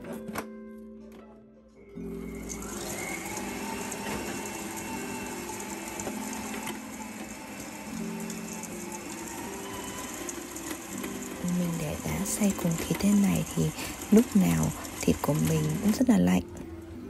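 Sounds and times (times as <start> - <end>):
stand mixer churning meat and ice: 2.0 - 16.8
faint motor whine: 2.0 - 17.0.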